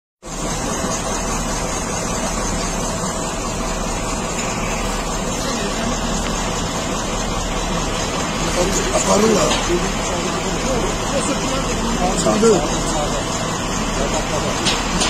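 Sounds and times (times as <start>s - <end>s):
heavy truck engine idling: 0.2s - 15.0s.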